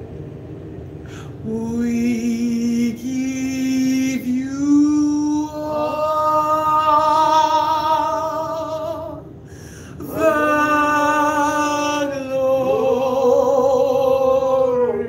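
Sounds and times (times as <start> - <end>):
lower sustained vocal line: 1.0 - 15.0
slow worship singing: 1.1 - 15.0.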